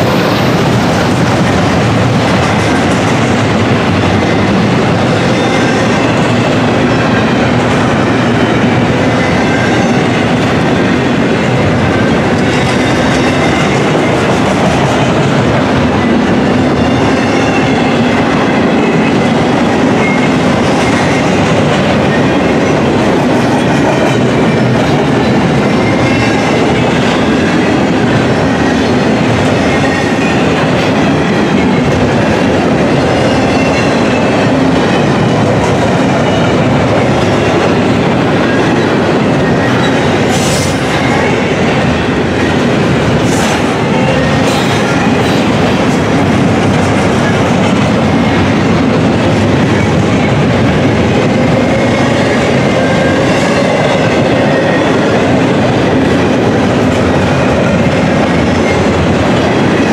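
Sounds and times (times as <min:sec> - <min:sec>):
clickety-clack over rail joints: 0:00.0 - 0:59.9
train wheels rumbling on rails: 0:00.0 - 0:59.9.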